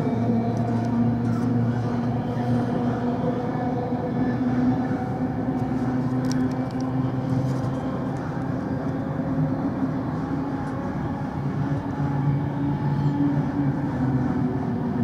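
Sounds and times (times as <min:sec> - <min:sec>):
moving train hum and rumble: 0:00.0 - 0:15.0.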